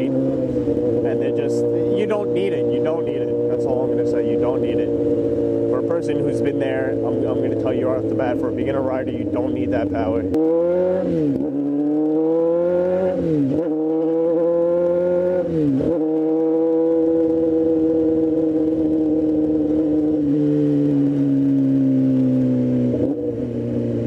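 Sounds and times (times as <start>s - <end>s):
motorcycle engine revving through gears: 0.0s - 24.0s.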